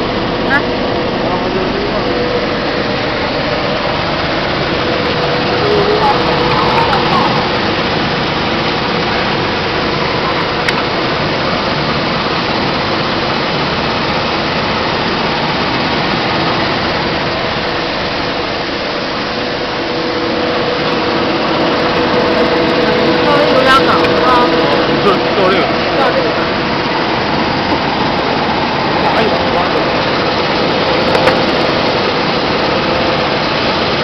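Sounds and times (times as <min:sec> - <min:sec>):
machine whirring: 0:00.0 - 0:34.0.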